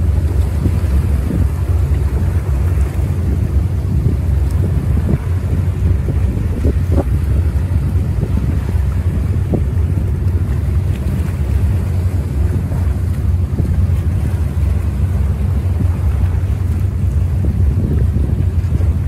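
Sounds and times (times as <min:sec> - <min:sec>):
choppy sea waves: 0:00.0 - 0:19.0
wind buffeting microphone: 0:00.0 - 0:19.0.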